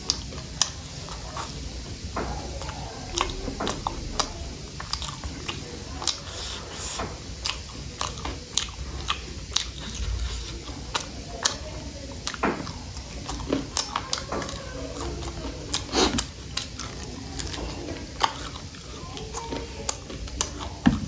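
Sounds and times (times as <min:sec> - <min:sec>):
person chewing noodles: 0:00.0 - 0:21.0.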